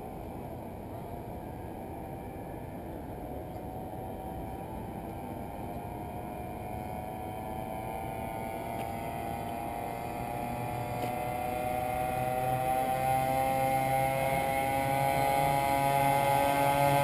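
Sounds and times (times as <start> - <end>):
small motorbike engine running: 1.0 - 17.0.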